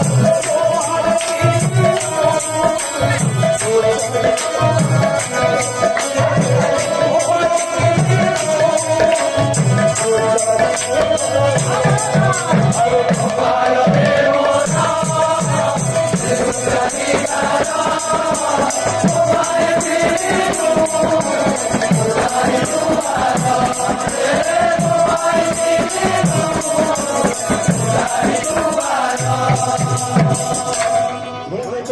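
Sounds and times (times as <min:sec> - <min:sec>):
steady drum beat: 0:00.0 - 0:30.8
jingling hand percussion: 0:00.0 - 0:31.9
voices singing together: 0:00.0 - 0:31.9.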